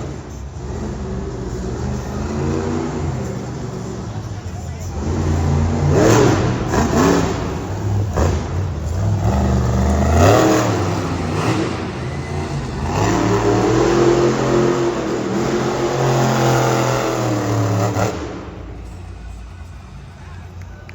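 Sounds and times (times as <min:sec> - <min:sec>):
monster truck engine revving: 0:00.0 - 0:20.9.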